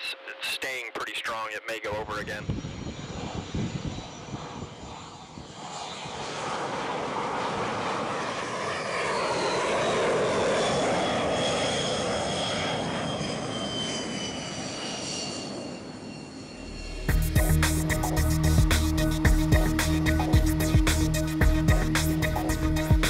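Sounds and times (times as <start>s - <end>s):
jet engine whining: 0.0s - 23.0s.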